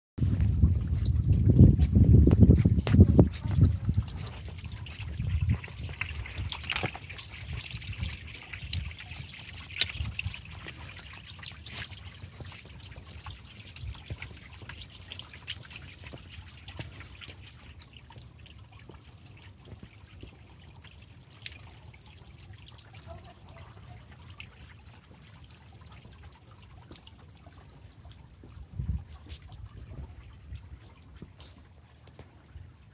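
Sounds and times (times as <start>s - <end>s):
fountain water trickling and splashing: 0.2s - 32.9s.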